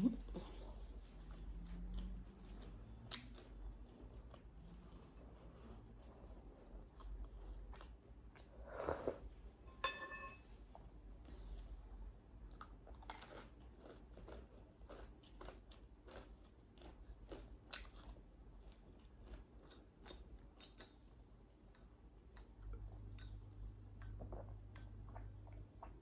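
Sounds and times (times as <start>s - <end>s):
person chewing food: 0.6s - 9.2s, 12.4s - 26.0s.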